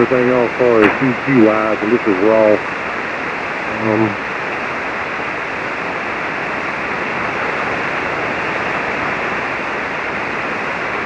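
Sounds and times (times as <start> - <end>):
radio receiver hiss: 0.0 - 11.0.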